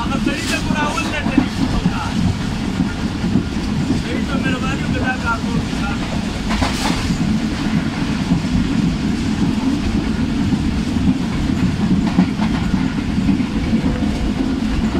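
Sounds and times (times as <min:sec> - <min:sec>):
train wheels rumbling on rails: 0:00.0 - 0:14.9
wheels clicking over rail joints: 0:00.0 - 0:14.9.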